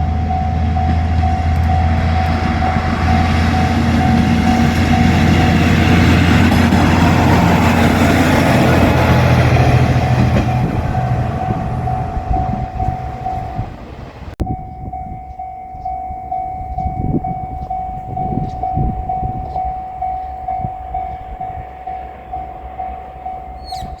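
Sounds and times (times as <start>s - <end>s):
level crossing bell dinging: 0.0s - 13.7s, 14.5s - 24.0s
diesel railcar engine passing: 0.0s - 24.0s.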